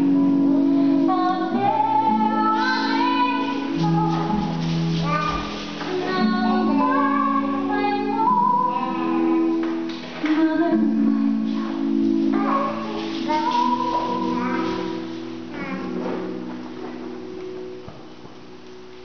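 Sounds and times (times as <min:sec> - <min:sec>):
high sung vocal melody: 0:00.0 - 0:16.5
sustained backing chords: 0:00.0 - 0:19.0.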